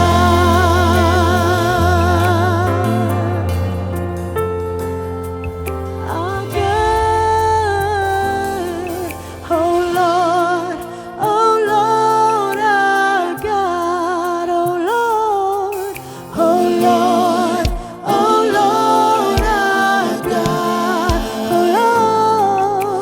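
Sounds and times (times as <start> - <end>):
gospel singing: 0.0 - 23.0.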